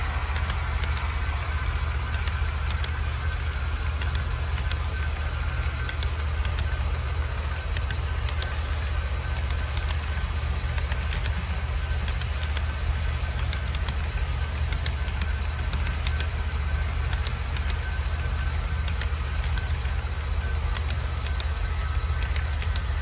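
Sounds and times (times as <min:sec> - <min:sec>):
model train wheels clicking: 0:00.0 - 0:23.0
steady low hum: 0:00.0 - 0:23.0.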